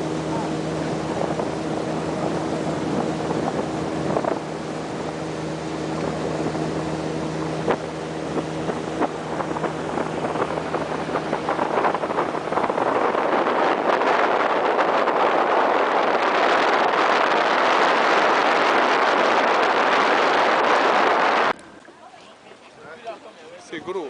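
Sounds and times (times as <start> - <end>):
motorboat engine running: 0.0 - 24.0
wind and water rushing: 0.0 - 24.0.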